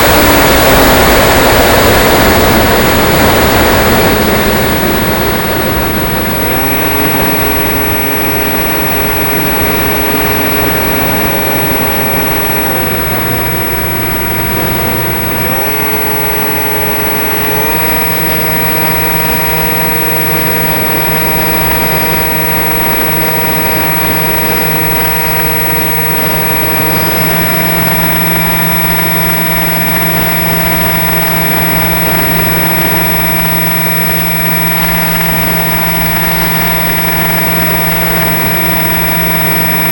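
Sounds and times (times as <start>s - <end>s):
rc plane motor whining: 0.0s - 39.9s
wind noise: 0.0s - 39.9s.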